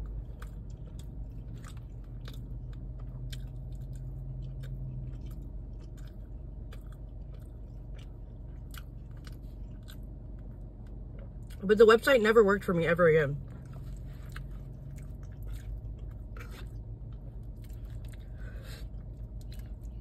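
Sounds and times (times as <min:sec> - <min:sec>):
person chewing food: 0:00.0 - 0:11.6, 0:13.4 - 0:20.0.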